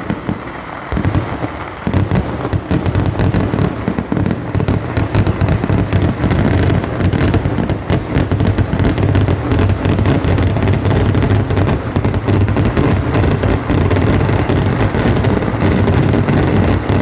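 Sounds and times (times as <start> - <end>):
fireworks crackling: 0.0 - 17.0
fireworks exploding: 0.0 - 17.0.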